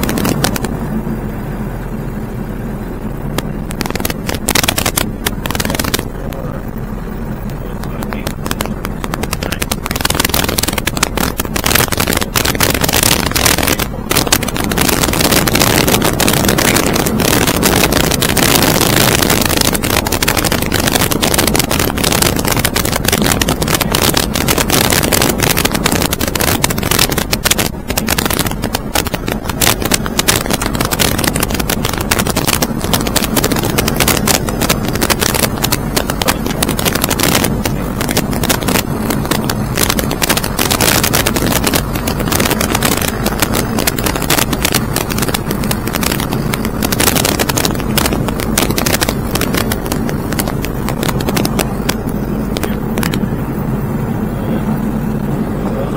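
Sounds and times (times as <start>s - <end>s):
engine noise in flight: 0.0s - 55.9s
wind buffeting microphone: 0.0s - 55.9s.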